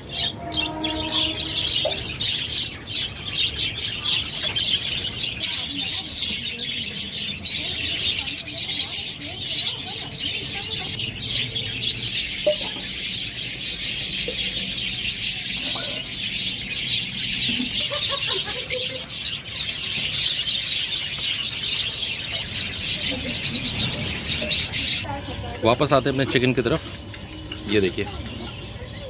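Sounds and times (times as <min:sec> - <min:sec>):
caged birds chirping: 0:00.0 - 0:29.0.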